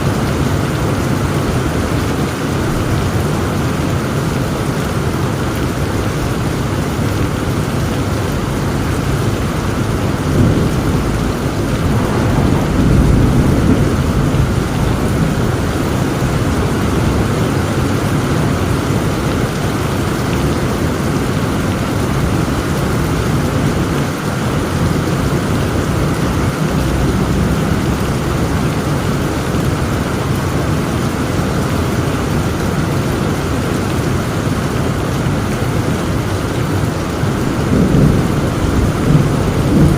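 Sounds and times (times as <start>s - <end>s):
heavy rain falling: 0.0s - 39.9s
thunder rumbling: 0.0s - 39.9s.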